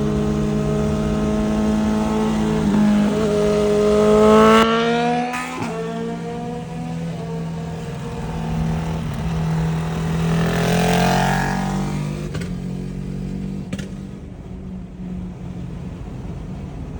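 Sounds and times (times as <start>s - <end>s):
motorcycle engine drone: 0.0s - 16.9s.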